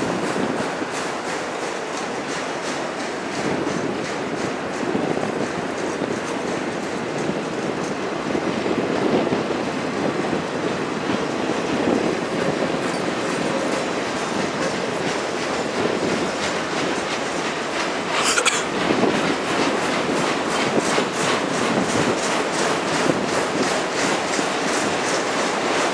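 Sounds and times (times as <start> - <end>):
clacking over rail joints: 0.0 - 25.9
train wheels rumbling: 0.0 - 25.9.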